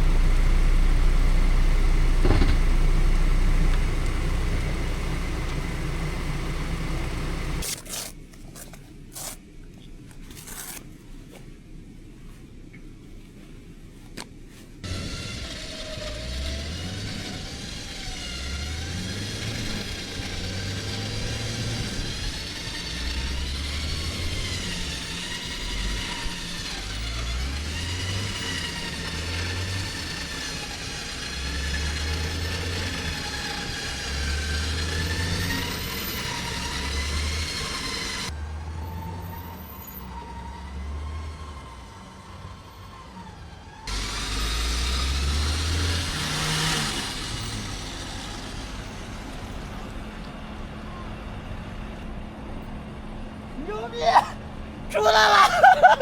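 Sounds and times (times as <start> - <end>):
suv engine revving under load: 0.0 - 7.6, 14.8 - 52.0.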